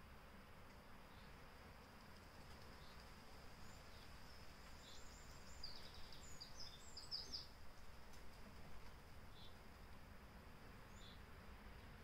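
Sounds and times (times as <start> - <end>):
small birds chirping: 1.0 - 10.0, 10.7 - 12.0.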